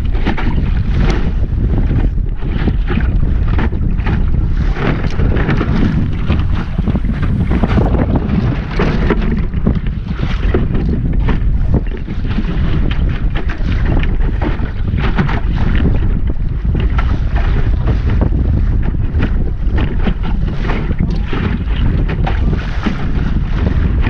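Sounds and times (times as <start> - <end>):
water splashing against hull: 0.0 - 24.0
wind buffeting microphone: 0.0 - 24.0.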